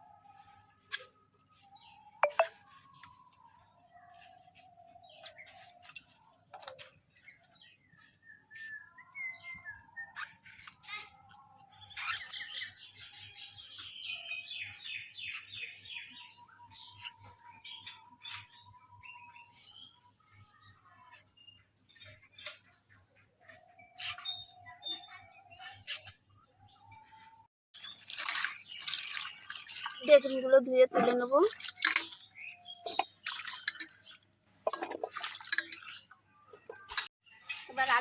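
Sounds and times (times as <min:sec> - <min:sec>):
birds chirping: 0:01.4 - 0:38.0.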